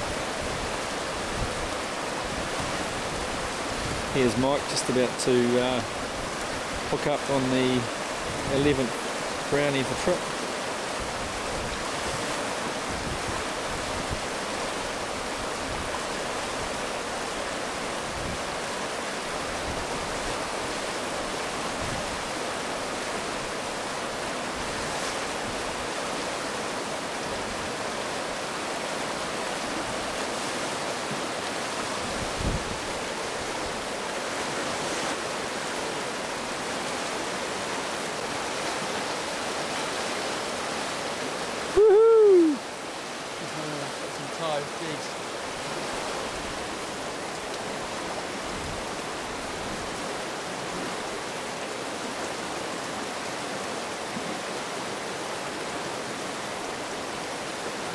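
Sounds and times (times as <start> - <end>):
river rushing over rapids: 0.0 - 57.9.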